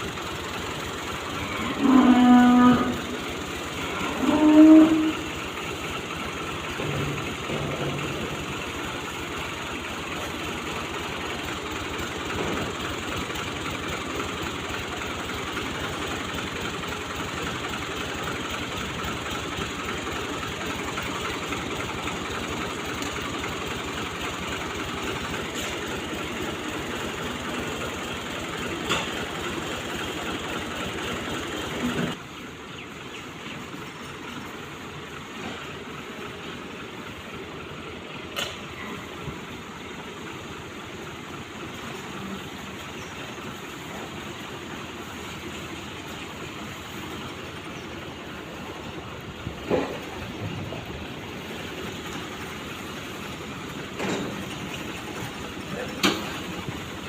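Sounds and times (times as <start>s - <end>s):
machinery pulsing rumble: 0.0s - 57.0s.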